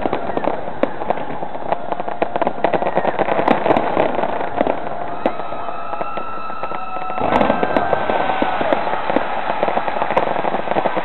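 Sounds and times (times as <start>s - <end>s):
fireworks bangs: 0.0s - 11.0s
fireworks crackling and popping: 0.0s - 11.0s
fireworks whistling: 0.0s - 11.0s.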